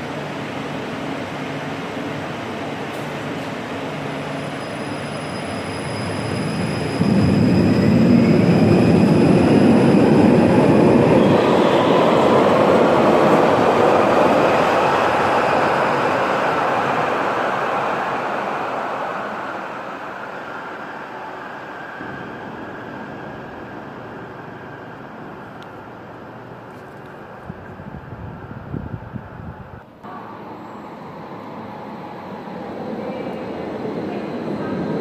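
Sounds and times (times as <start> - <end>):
light-rail train passing: 0.0 - 35.0.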